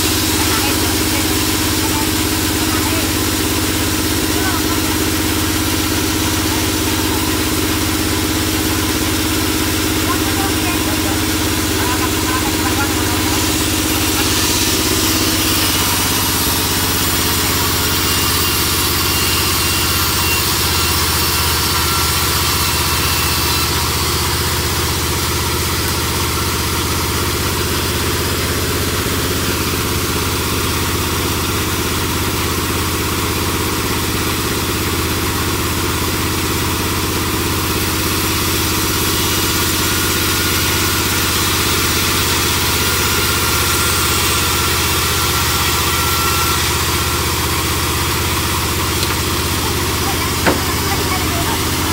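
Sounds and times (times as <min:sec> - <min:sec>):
band saw machine drone: 0:00.0 - 0:51.9.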